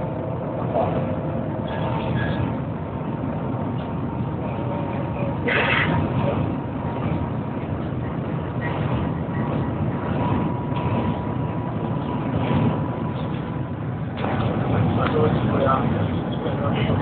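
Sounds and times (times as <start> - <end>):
train rushing rumble: 0.0 - 17.0.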